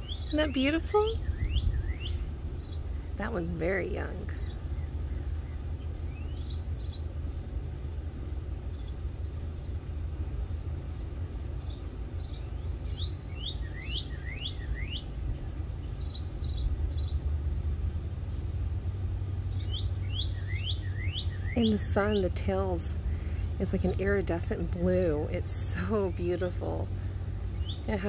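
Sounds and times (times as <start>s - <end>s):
low rumble: 0.0s - 28.0s
songbird chirping: 0.0s - 28.0s.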